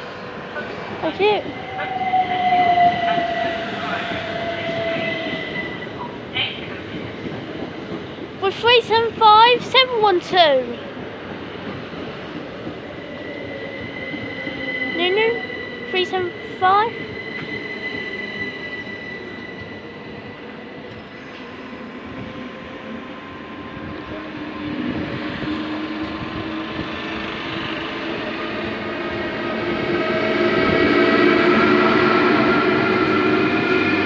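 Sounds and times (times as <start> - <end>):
train wheel and rail noise: 0.0 - 34.0.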